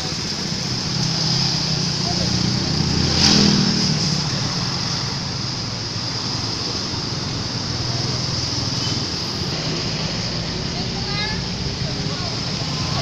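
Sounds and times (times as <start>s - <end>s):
steady engine hum: 0.0s - 13.0s
vehicle passing close: 0.0s - 13.0s.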